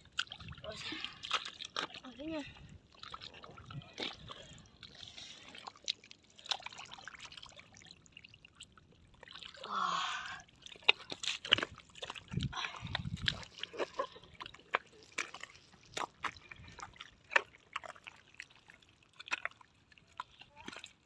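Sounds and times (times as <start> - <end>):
muddy water splashing and dripping: 0.0 - 21.0.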